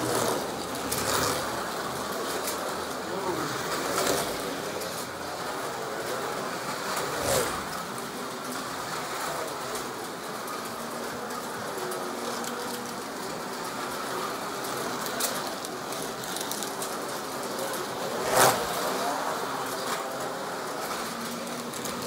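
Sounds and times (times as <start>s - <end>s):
slot car motors whining: 0.0s - 22.0s.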